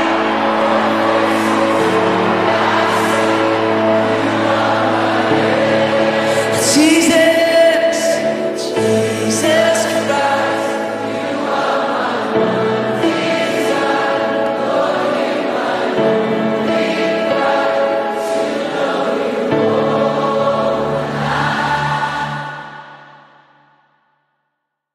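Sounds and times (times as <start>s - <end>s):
choir singing held chords: 0.0s - 23.8s.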